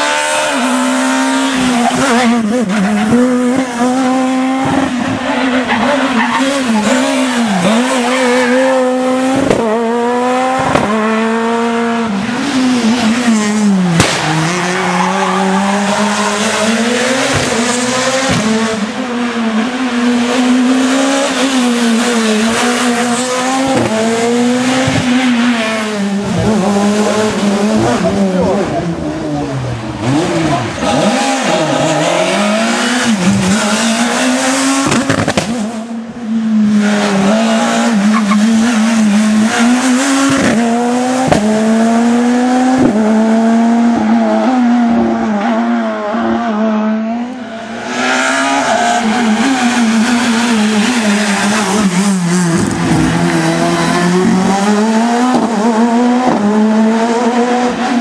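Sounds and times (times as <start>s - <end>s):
rally car engines at high revs: 0.0s - 58.0s.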